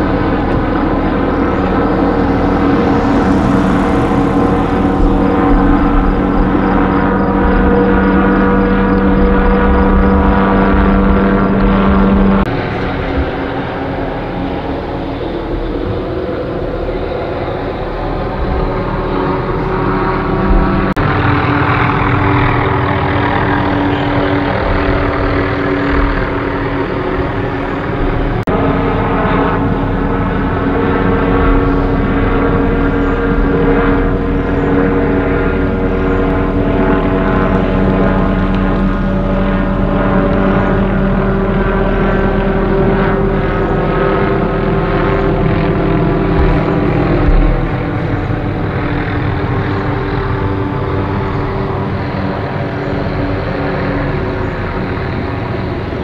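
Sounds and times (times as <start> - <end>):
helicopter rotor drone: 0.0 - 56.0.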